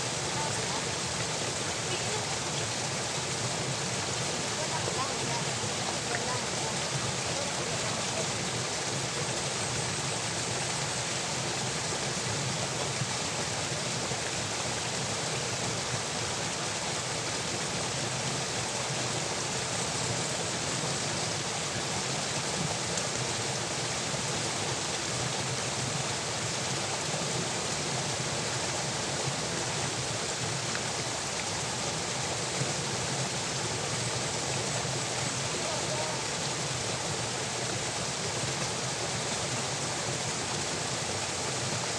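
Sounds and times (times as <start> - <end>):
water flowing in channel: 0.0 - 41.9.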